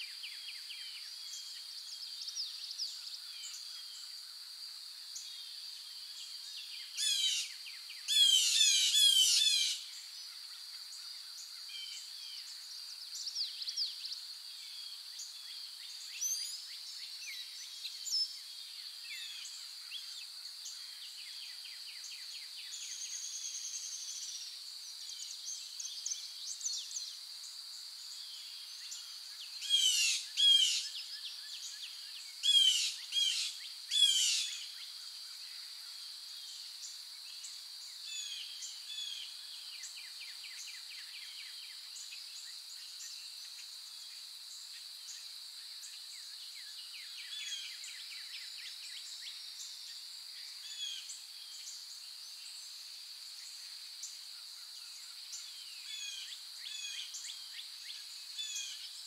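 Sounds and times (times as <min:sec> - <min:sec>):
forest birds singing: 0:00.0 - 0:04.4, 0:05.0 - 0:59.0
steady high-pitched hiss: 0:00.0 - 0:59.0.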